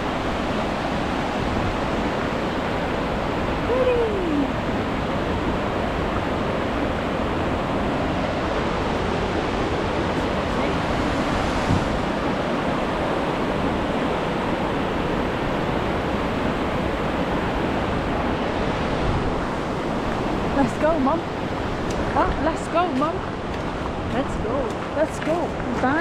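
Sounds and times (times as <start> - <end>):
fast-flowing river water: 0.0 - 26.0.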